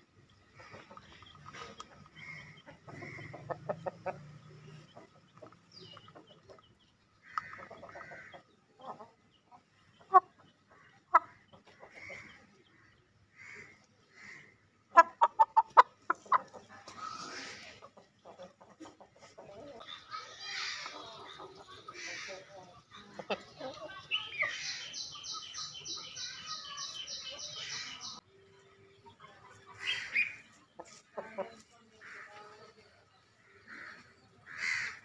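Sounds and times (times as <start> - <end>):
roosters clucking softly: 0.1 - 28.2, 29.3 - 34.5.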